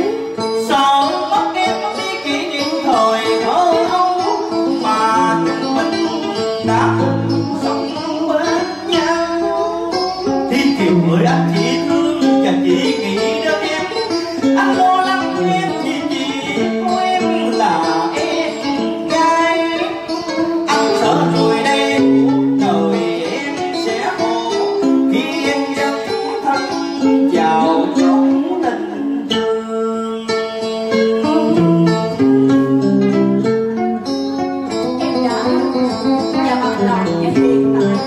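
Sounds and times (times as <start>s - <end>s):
plucked string instruments: 0.0s - 38.0s.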